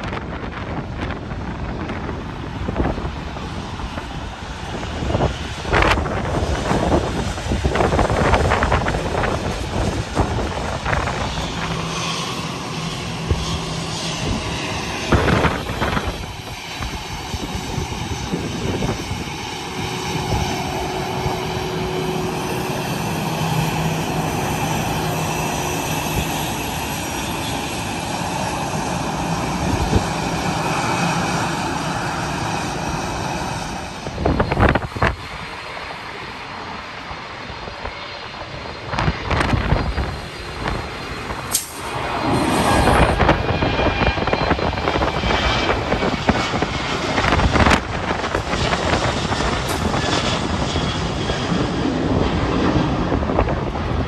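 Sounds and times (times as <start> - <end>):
jet airliner engines: 0.0 - 54.0
wind buffeting microphone: 0.0 - 54.0.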